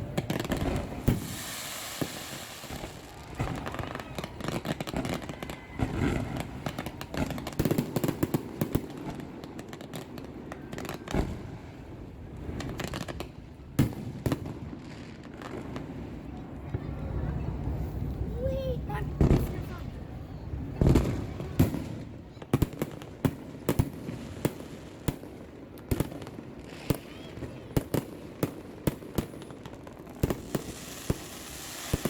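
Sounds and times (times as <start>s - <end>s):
fireworks bangs and pops: 0.0s - 18.3s, 19.1s - 20.0s, 20.7s - 32.0s
fireworks crackling: 0.0s - 32.0s.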